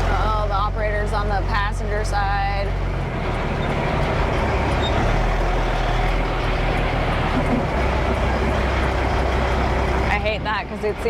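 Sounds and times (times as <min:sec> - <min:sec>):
road noise: 0:00.0 - 0:11.0
truck diesel engine: 0:00.0 - 0:11.0.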